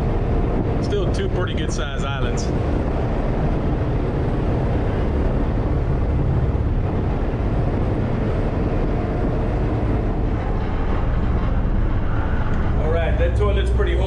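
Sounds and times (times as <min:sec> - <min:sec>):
ferry engines droning: 0:00.0 - 0:14.0
water rushing along hull: 0:00.0 - 0:14.0.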